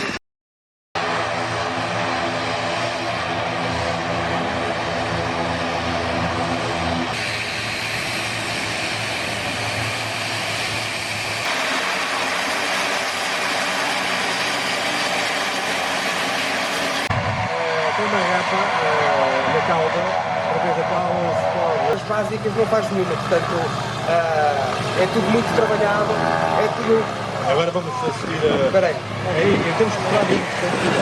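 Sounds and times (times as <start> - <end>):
propeller aircraft engine droning: 1.0 - 31.0.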